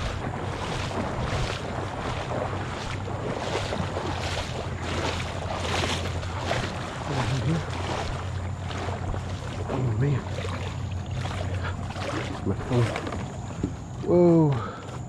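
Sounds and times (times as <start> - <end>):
wind buffeting microphone: 0.0 - 14.1
footsteps splashing in water: 0.0 - 15.0.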